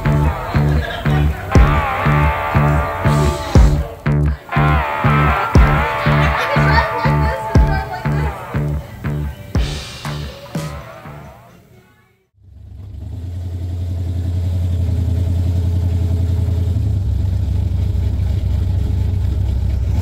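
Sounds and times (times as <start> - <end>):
vehicle engine droning: 0.0 - 11.2, 12.4 - 20.0.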